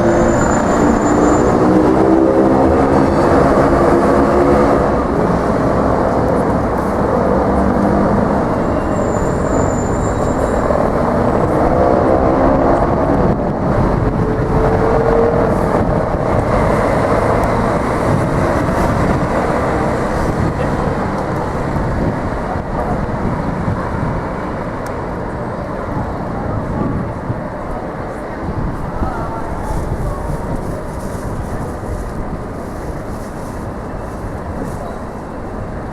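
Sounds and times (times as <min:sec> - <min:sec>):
large vehicle heavy rumble: 0:00.0 - 0:35.9.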